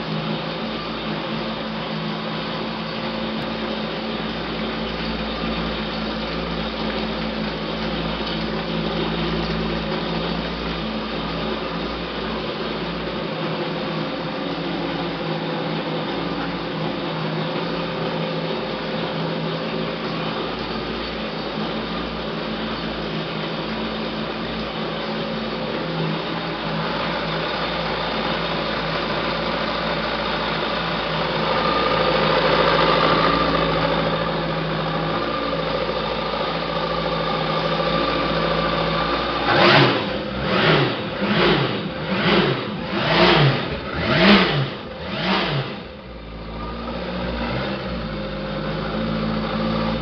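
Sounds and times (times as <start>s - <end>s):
jet ski engine idling and revving: 0.0s - 50.0s.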